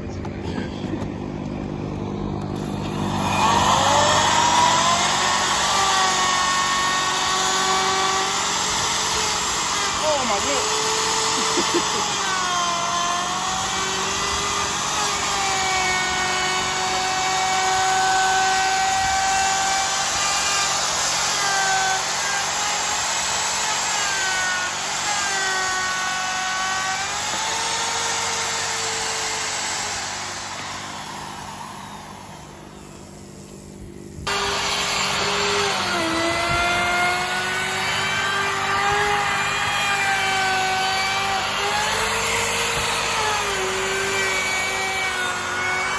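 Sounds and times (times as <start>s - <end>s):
power tool cutting wood: 0.0s - 45.9s.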